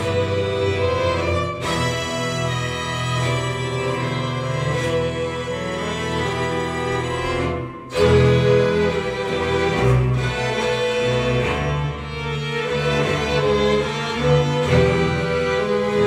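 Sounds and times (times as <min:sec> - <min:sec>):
string ensemble bowed chords: 0:00.0 - 0:16.0.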